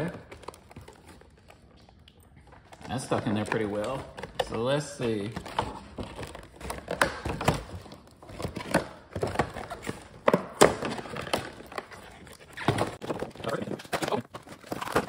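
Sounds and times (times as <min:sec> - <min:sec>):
plastic packaging clicking and crackling: 0:00.0 - 0:15.0.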